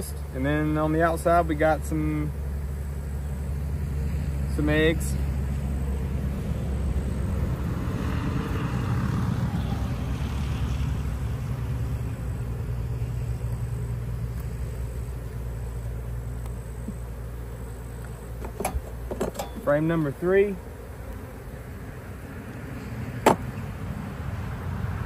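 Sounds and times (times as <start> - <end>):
honeybees humming: 0.0 - 25.0.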